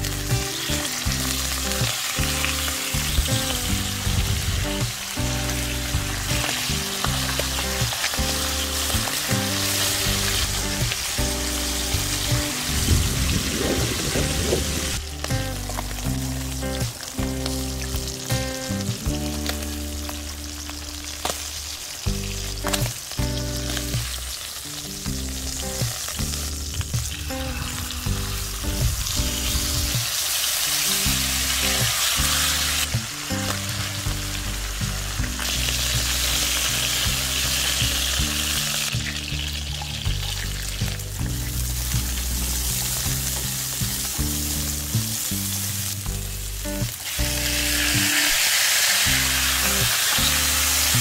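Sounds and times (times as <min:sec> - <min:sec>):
oil sizzling in frying pan: 0:00.0 - 0:51.0.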